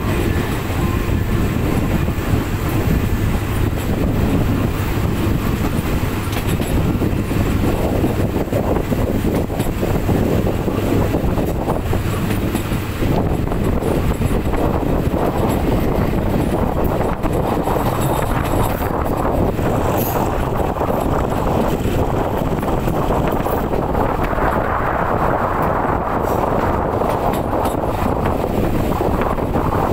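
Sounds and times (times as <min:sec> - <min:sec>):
train running on track: 0:00.0 - 0:29.9.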